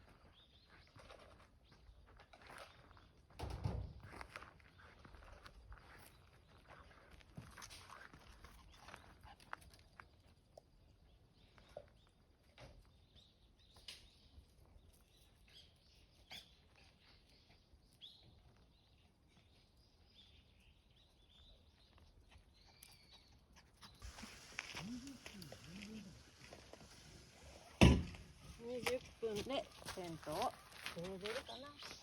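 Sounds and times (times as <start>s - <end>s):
faint outdoor ambience: 0.0s - 32.0s.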